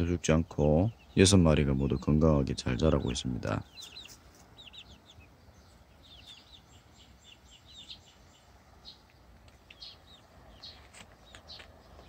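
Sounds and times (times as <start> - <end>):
faint background noise: 0.0 - 12.0
young chickens peeping: 0.0 - 12.0.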